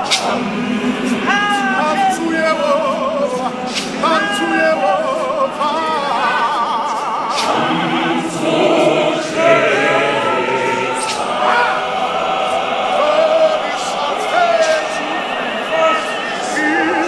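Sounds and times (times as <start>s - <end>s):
church choir singing: 0.0s - 17.0s.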